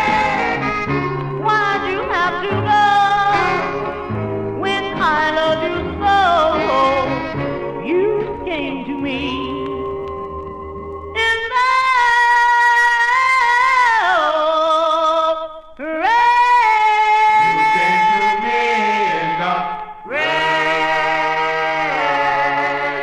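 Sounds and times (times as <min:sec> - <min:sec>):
vocal group singing in harmony: 0:00.0 - 0:15.0, 0:15.8 - 0:23.0.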